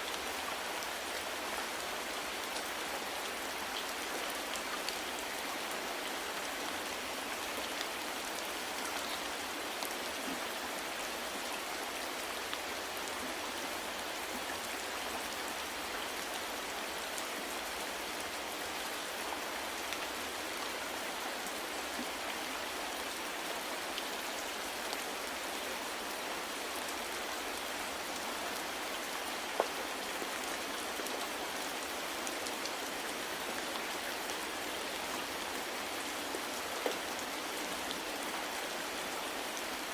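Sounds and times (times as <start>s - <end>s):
soft rainfall patter: 0.0s - 39.9s.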